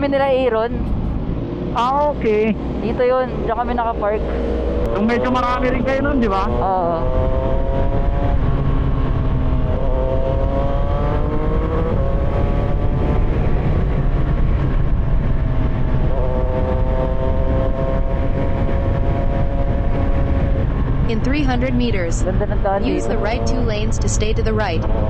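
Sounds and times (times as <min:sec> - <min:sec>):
motorcycle engine accelerating: 0:00.0 - 0:25.0
wind rush on microphone: 0:00.0 - 0:25.0.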